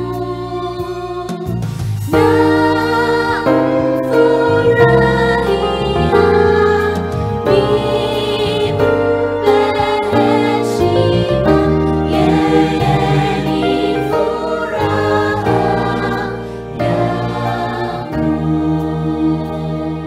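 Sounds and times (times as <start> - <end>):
children's choir singing gospel: 0.0 - 20.0.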